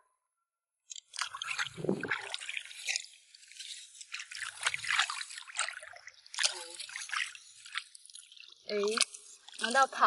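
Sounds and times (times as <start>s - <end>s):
seawater trickling and splashing: 0.9s - 10.0s
wet squelching: 0.9s - 10.0s.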